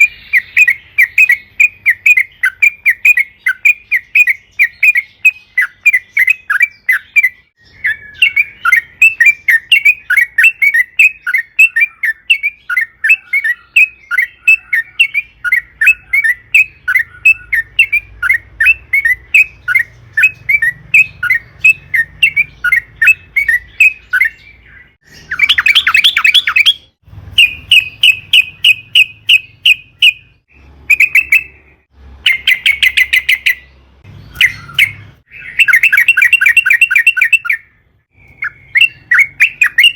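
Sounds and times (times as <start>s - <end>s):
fast even bird trill: 0.0s - 39.9s
harsh bird chatter: 0.0s - 39.9s.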